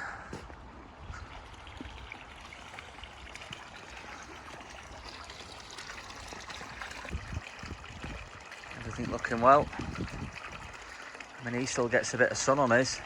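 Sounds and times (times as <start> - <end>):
water trickling into pond: 0.0 - 13.0.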